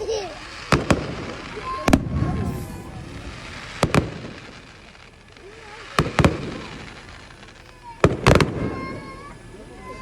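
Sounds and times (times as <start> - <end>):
fireworks exploding: 0.0 - 10.0.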